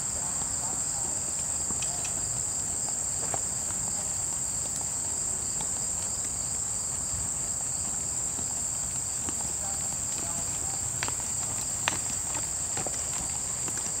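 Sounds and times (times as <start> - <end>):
insects chorus drone: 0.0 - 14.0.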